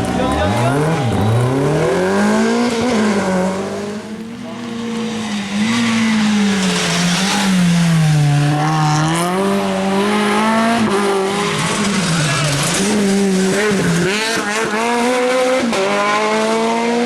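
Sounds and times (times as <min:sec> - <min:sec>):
rally car engine at full throttle: 0:00.0 - 0:17.0.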